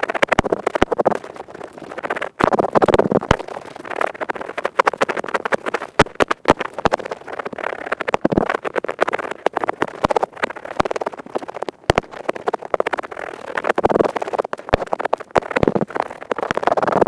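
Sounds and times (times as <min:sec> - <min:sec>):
earpick scratching microphone: 0:00.0 - 0:17.0.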